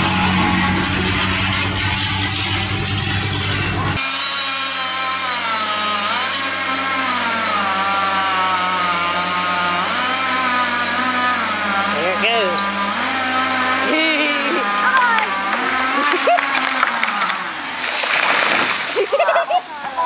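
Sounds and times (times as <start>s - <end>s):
chainsaw engine running hard: 0.0s - 20.0s.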